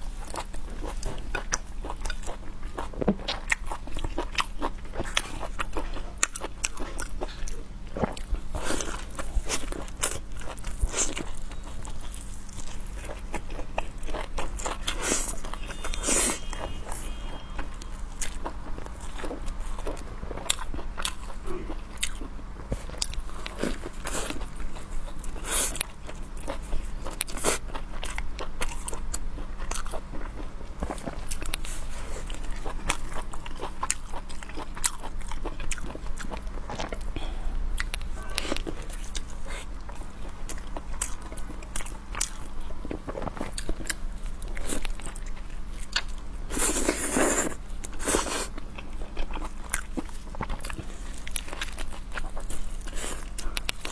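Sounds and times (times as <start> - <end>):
crunchy bites and chewing: 0.2 - 53.9.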